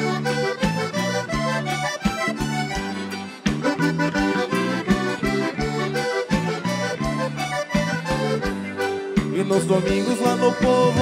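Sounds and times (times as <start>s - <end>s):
accordions playing dance music: 0.0s - 11.0s.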